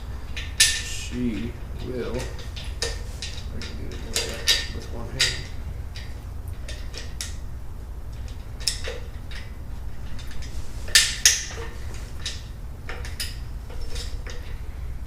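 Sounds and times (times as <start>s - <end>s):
steady low hum: 0.0s - 15.0s
metal clinks and knocks: 0.2s - 7.4s, 8.1s - 14.6s.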